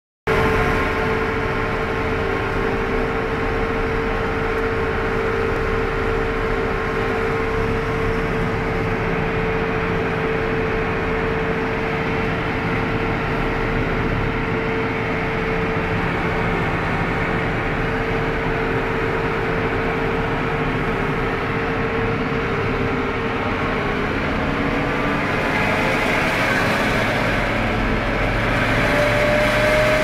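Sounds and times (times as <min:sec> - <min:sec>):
drivetrain whine: 0:00.3 - 0:30.0
tractor diesel engine cruising: 0:00.3 - 0:30.0.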